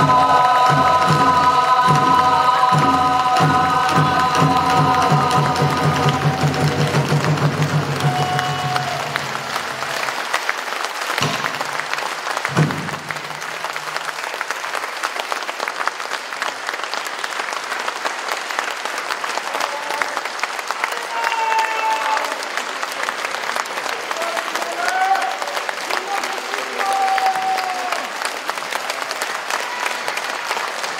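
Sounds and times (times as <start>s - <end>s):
audience applauding: 0.0s - 30.9s
people cheering: 0.0s - 30.9s.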